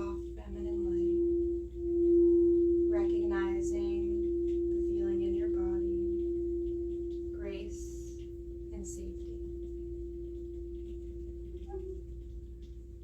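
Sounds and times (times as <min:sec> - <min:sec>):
singing bowl tone: 0:00.0 - 0:13.0.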